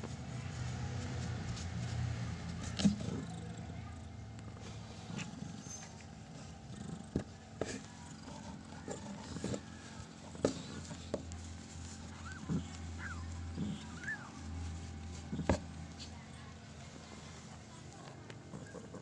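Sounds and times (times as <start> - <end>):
cat purring: 0.3 - 19.0.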